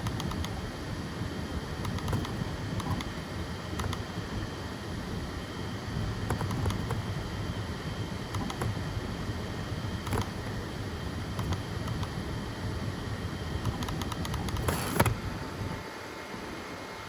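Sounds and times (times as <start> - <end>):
printer fans and motors humming: 0.0 - 17.0.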